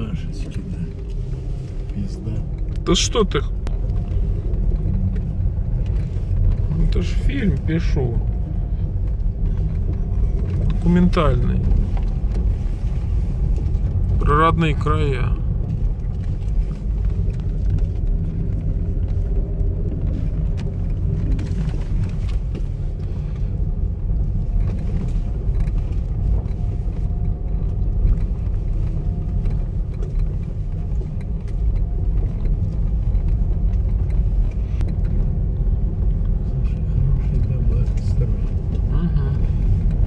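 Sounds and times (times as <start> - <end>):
car driving over rough dirt road: 0.0 - 40.0.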